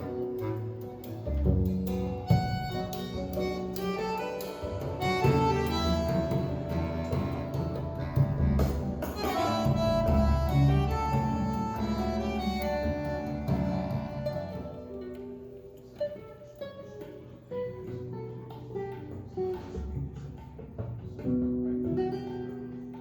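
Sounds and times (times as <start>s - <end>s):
instrumental string music: 0.0s - 23.0s.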